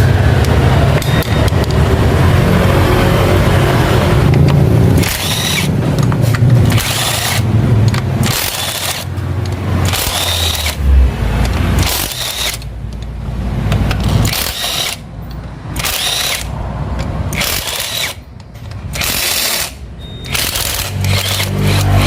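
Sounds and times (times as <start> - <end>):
power tool running: 0.0 - 10.9, 11.5 - 12.7, 14.0 - 15.1, 15.8 - 16.5, 17.3 - 18.2, 18.9 - 22.0.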